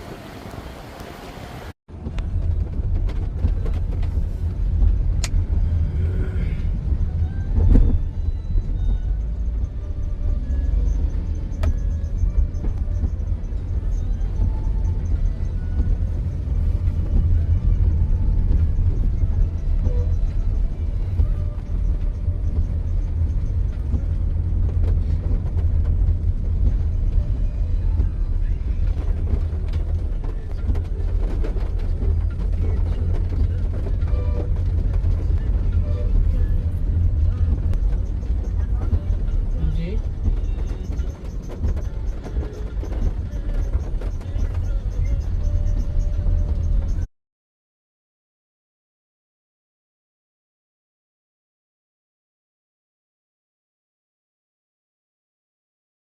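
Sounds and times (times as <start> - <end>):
road traffic rumble: 0.0 - 47.1.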